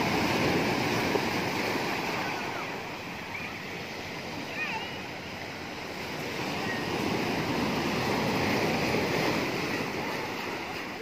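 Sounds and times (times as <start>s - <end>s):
surf washing over boulders: 0.0s - 11.0s.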